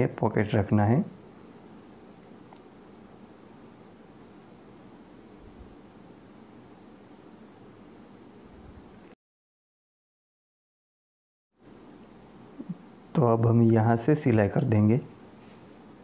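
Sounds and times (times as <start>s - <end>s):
insect trilling: 0.0s - 9.2s, 11.6s - 16.0s.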